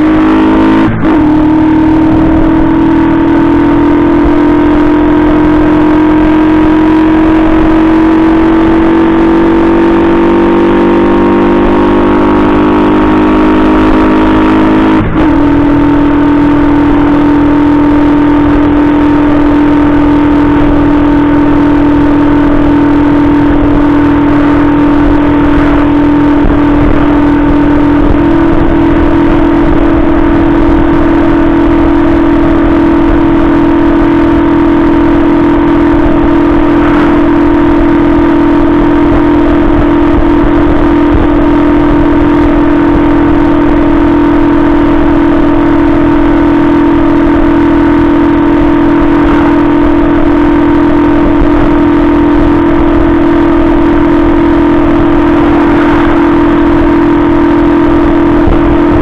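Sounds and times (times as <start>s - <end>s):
moped engine droning: 0.0s - 59.0s
wind and road noise: 0.0s - 59.0s.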